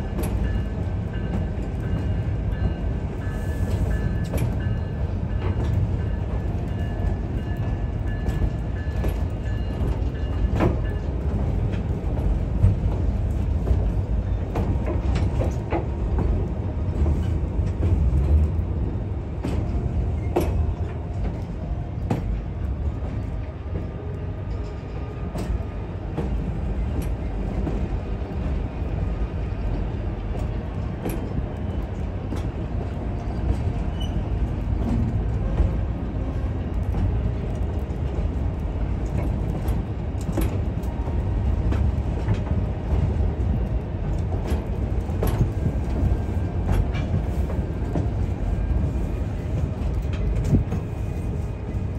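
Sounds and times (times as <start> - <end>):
train rumbling on track: 0.0 - 51.9.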